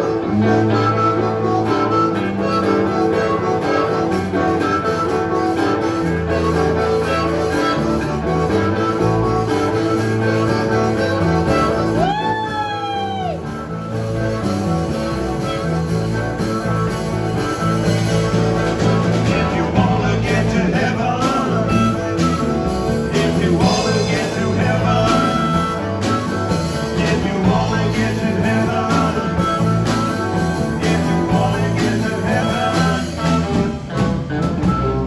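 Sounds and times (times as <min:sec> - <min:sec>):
drum kit: 0:00.0 - 0:35.0
electric bass: 0:00.0 - 0:35.0
electric guitar: 0:00.0 - 0:35.0
harmonica through microphone: 0:00.0 - 0:35.0.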